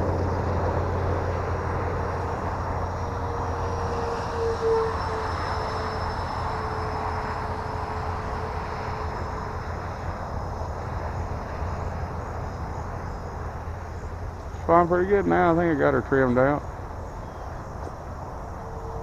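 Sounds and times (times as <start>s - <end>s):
model jet fan whine: 0.0s - 19.0s.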